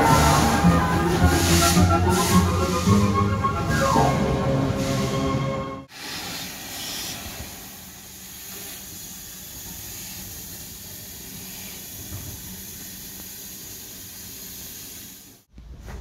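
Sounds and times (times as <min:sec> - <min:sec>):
steam hissing: 0:00.0 - 0:04.1, 0:04.7 - 0:15.5.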